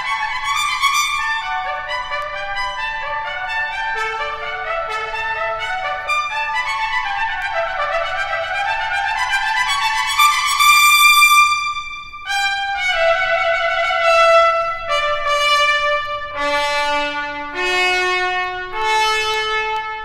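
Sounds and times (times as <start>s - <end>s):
solo trumpet playing: 0.0s - 20.0s.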